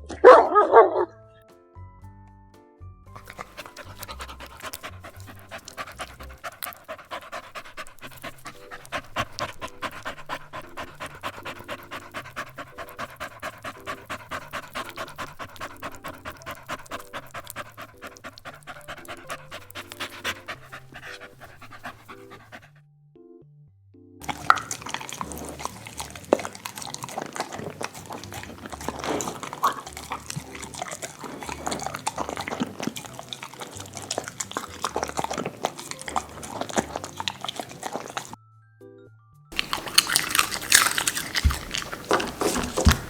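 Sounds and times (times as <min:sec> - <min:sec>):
faint low music: 0:00.0 - 0:43.0
dog panting rapidly: 0:03.2 - 0:22.8, 0:24.2 - 0:38.4, 0:39.5 - 0:43.0.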